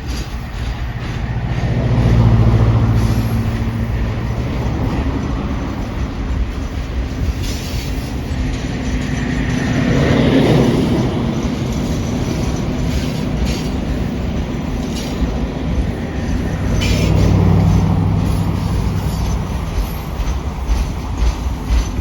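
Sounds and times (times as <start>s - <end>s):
wheels clicking over rail joints: 0.0s - 22.0s
wheels rumbling on rail: 0.0s - 22.0s.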